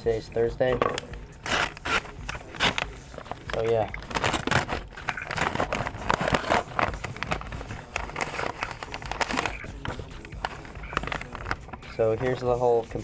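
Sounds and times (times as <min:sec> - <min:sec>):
crinkling paper and plastic wrapping: 0:00.9 - 0:13.0.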